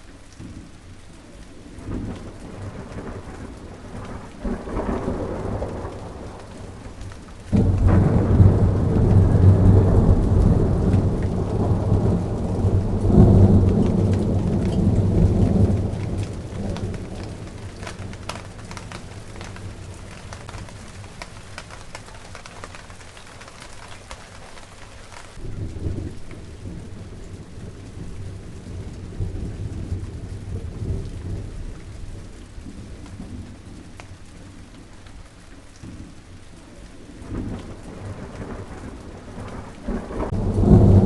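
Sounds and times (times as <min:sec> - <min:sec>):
steady rain falling: 0:00.0 - 0:41.0
thunder rumbling: 0:00.4 - 0:41.0.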